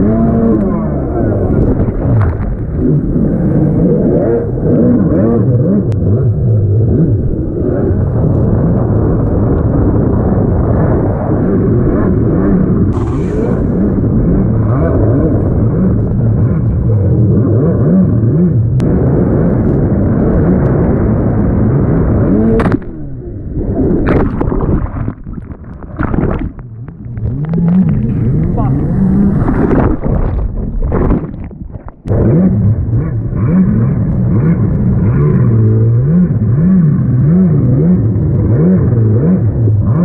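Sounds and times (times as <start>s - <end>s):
jet ski engine running: 0.0s - 31.2s, 31.9s - 40.0s.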